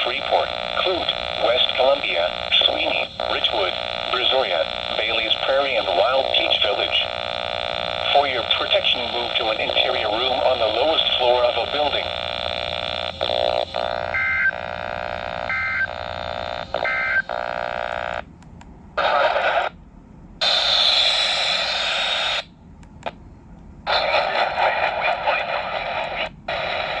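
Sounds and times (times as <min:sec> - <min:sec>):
radio static hiss: 0:00.0 - 0:18.2, 0:19.0 - 0:19.8, 0:20.4 - 0:22.5, 0:23.8 - 0:27.0.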